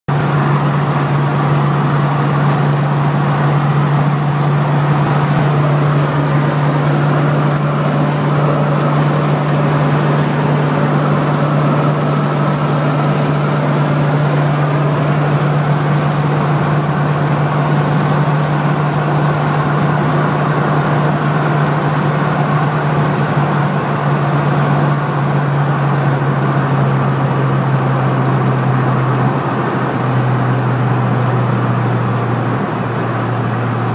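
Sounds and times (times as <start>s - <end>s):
car engine hum: 0.1s - 33.9s
tyre and road noise: 0.1s - 33.9s.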